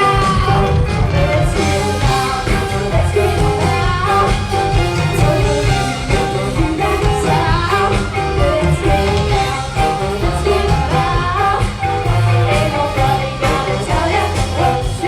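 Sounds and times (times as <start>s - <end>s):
big band playing: 0.0s - 15.0s
person singing: 0.0s - 15.0s.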